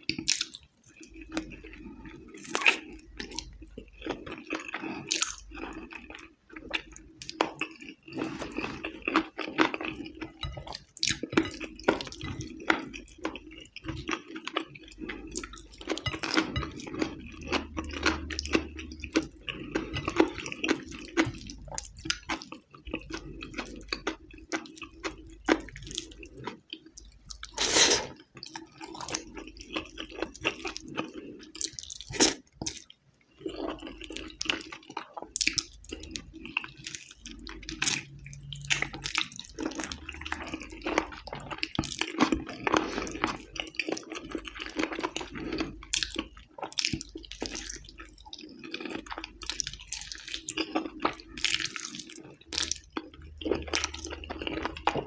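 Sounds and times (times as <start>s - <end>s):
person chewing wet mouth sounds: 0.0s - 55.0s.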